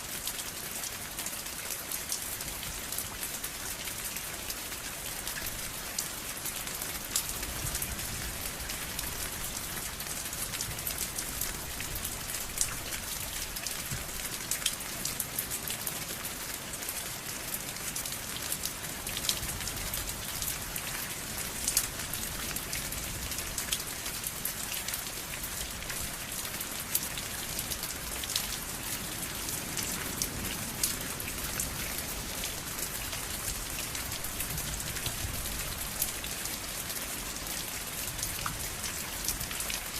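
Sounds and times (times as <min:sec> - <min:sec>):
rain hissing and pattering: 0:00.0 - 0:39.9.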